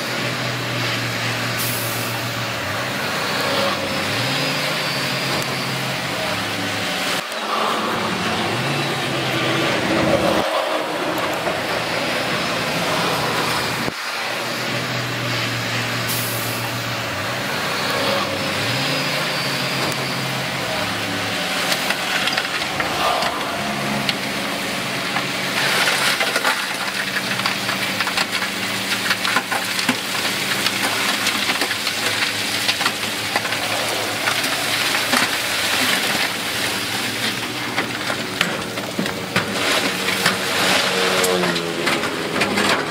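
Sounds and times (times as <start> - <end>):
diesel machinery engine drone: 0.0 - 42.9.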